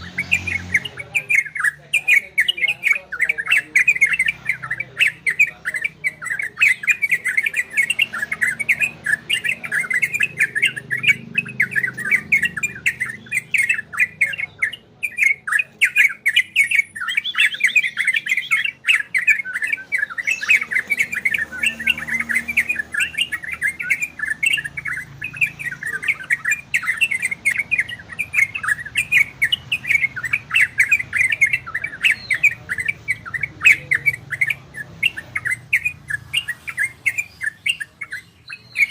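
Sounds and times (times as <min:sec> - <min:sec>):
bulbuls chattering: 0:00.0 - 0:38.9.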